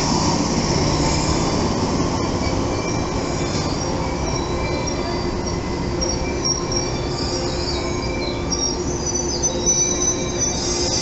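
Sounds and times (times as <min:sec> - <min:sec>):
train wheels rumbling on rail: 0:00.0 - 0:11.0
high wheel squeals: 0:00.2 - 0:11.0.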